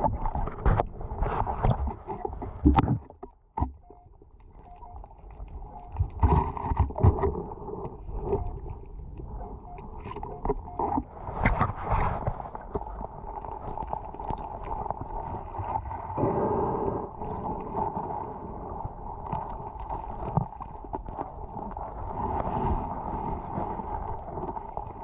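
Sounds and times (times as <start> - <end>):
underwater rumble and wash: 0.0 - 25.0.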